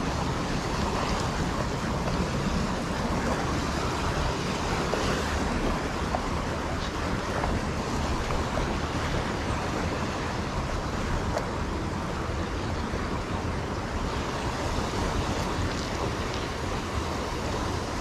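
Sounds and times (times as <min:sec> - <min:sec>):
river rapids rushing over rocks: 0:00.0 - 0:18.0.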